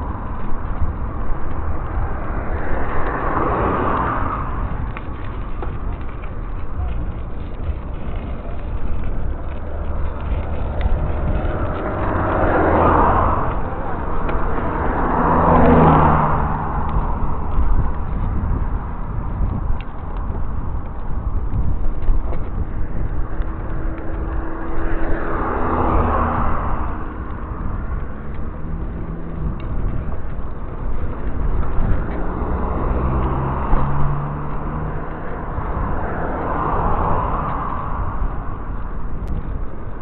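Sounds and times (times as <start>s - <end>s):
cars passing: 0.0s - 40.0s
wind buffeting microphone: 0.0s - 40.0s.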